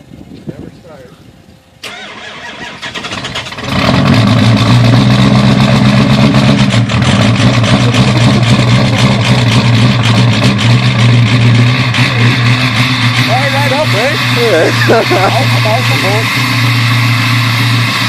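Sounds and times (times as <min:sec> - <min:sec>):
diesel engine cranking and starting: 0:01.8 - 0:18.0
diesel engine running with clatter: 0:03.0 - 0:18.0.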